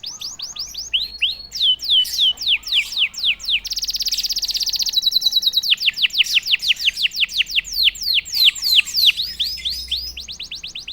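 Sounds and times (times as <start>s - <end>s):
canary singing: 0.0s - 10.9s.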